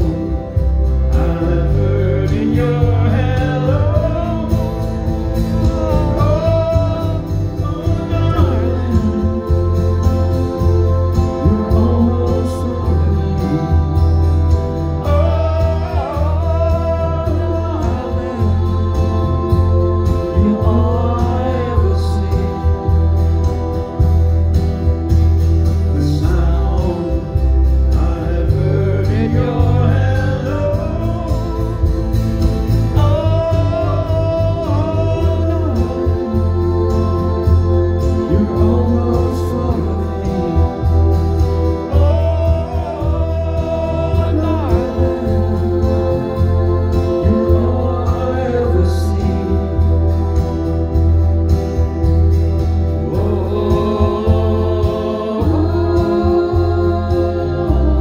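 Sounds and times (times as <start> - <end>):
amplified acoustic guitar: 0.0 - 58.0
heavy bass: 0.0 - 58.0
person singing: 0.0 - 58.0.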